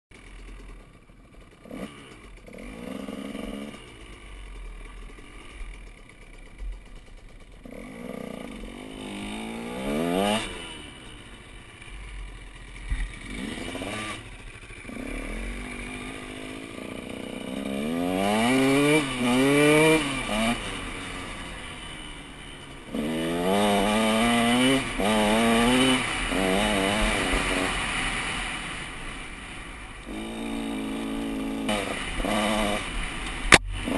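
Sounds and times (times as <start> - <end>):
dirt bike engine revving: 0.1 - 33.9.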